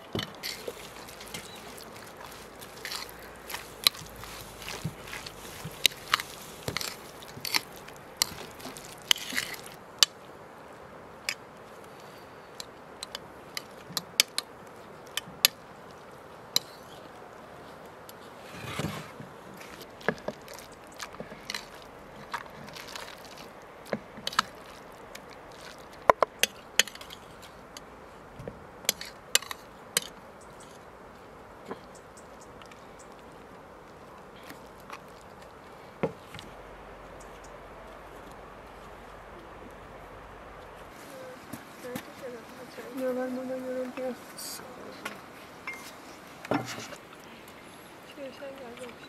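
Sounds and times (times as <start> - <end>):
soft rustle of mixing: 0.0 - 49.0.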